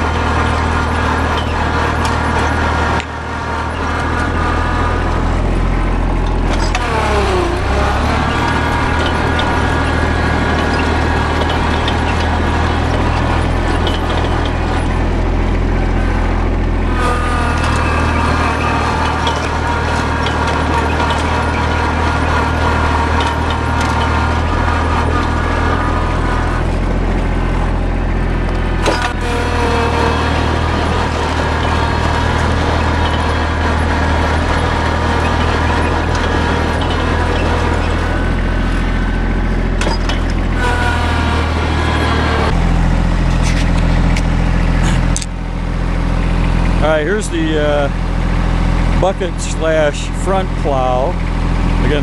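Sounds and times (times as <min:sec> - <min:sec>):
high whine: 0:00.0 - 0:52.0
tractor engine running: 0:00.0 - 0:52.0.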